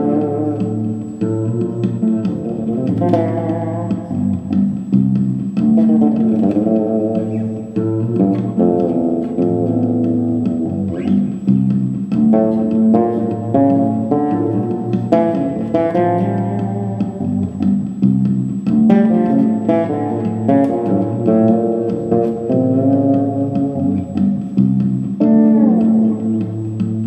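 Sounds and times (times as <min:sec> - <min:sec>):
plucked fretless bass melody: 0:00.0 - 0:27.0
steady low bass line: 0:00.0 - 0:27.0.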